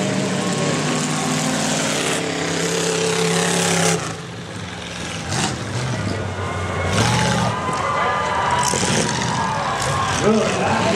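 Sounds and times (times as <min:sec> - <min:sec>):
car engine running hard: 0:00.0 - 0:10.9.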